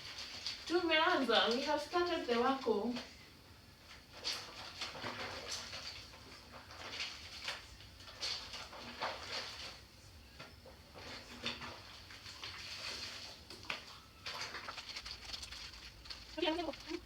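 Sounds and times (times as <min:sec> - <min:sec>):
clothes scrubbed in soapy water: 0:00.0 - 0:03.2, 0:03.8 - 0:10.2, 0:10.8 - 0:17.0.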